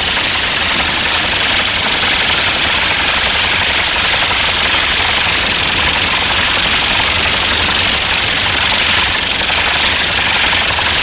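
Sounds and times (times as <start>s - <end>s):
rocket engines hissing: 0.0s - 11.0s.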